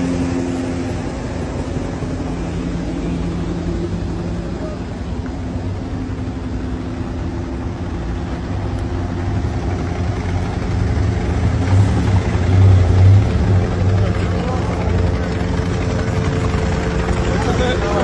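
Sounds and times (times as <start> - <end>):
buses and trucks engines passing: 0.0 - 18.0.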